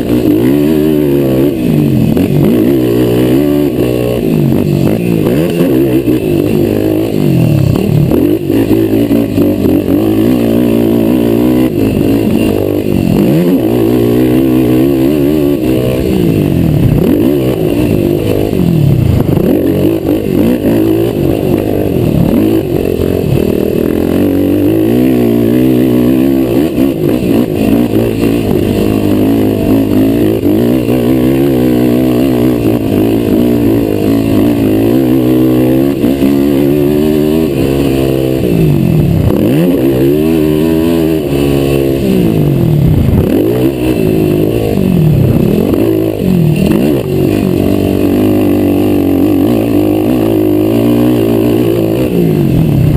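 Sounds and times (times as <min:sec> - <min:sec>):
quad engine revving: 0:00.0 - 0:52.9.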